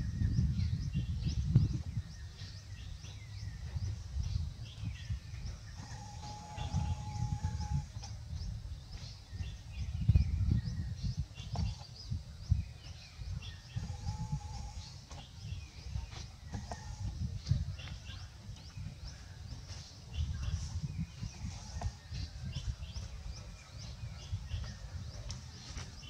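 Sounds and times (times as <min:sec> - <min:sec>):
low rumbling background noise: 0:00.0 - 0:26.0
small birds chirping: 0:00.0 - 0:26.0.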